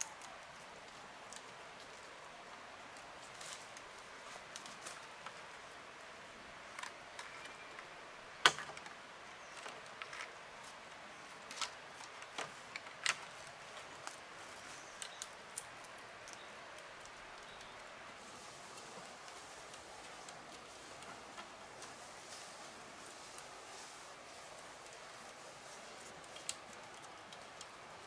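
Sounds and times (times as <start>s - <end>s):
faint background hiss: 0.0s - 28.0s.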